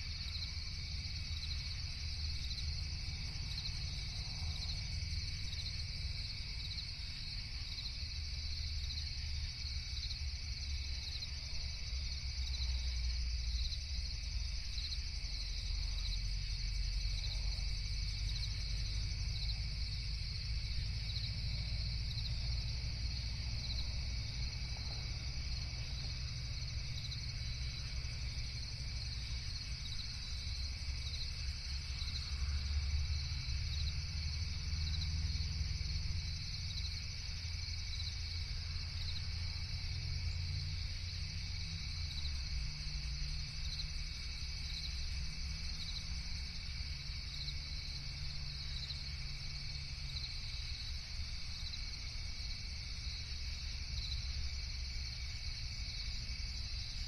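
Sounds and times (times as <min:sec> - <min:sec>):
crickets chirping: 0:00.0 - 0:57.0
low steady rumble: 0:00.0 - 0:57.0.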